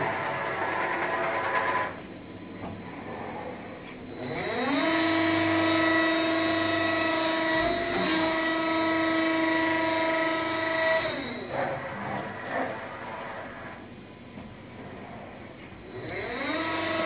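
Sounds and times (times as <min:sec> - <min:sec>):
motor whining: 0:00.0 - 0:17.0.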